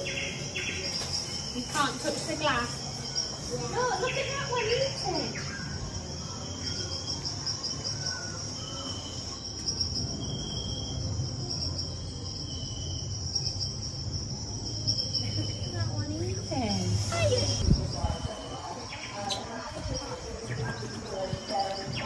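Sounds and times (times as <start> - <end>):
cricket-like chirring: 0.0 - 22.0.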